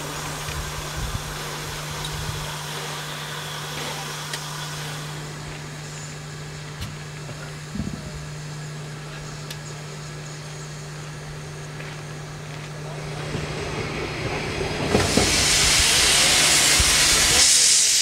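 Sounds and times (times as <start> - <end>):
steam locomotive hissing: 0.0 - 6.8, 7.5 - 18.0.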